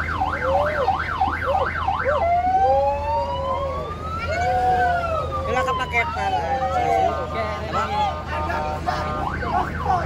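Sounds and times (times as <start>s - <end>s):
electronic siren yelping and wailing: 0.0s - 7.3s, 9.2s - 10.0s.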